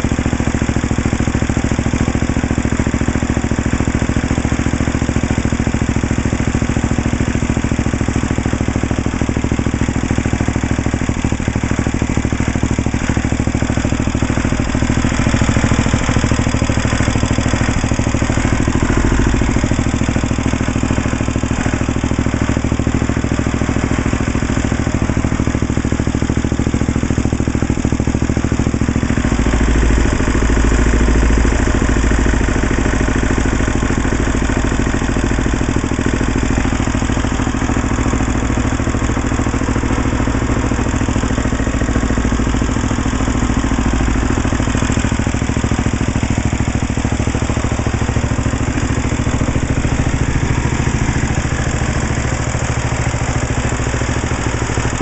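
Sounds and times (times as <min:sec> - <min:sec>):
garden tractor engine idling: 0:00.0 - 0:55.0.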